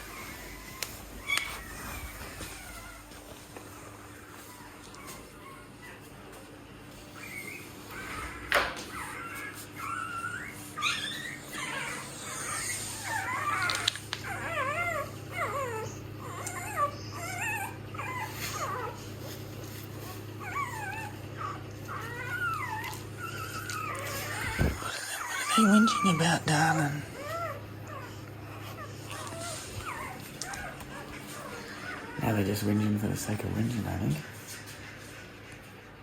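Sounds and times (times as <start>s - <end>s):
puppies whimpering and squealing: 0.0s - 36.0s.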